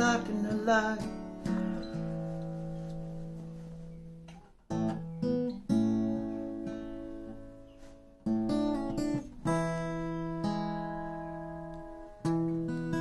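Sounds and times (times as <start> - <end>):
acoustic guitar chords ringing: 0.0 - 13.0.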